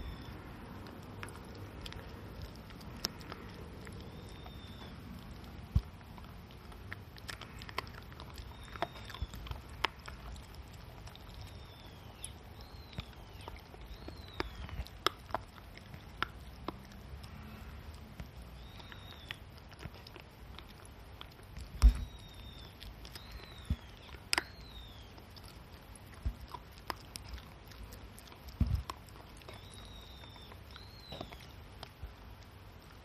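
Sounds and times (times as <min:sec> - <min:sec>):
dog teeth crunching chew treat: 0:00.1 - 0:33.0.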